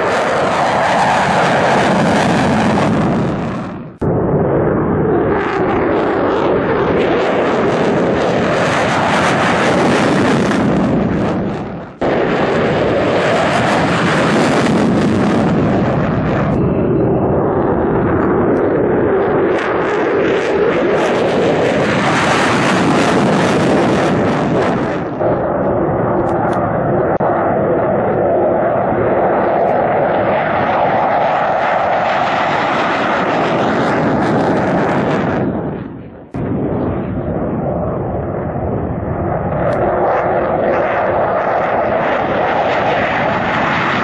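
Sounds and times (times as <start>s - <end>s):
jet engine roar: 0.0s - 44.0s
wind buffeting microphone: 0.0s - 44.0s.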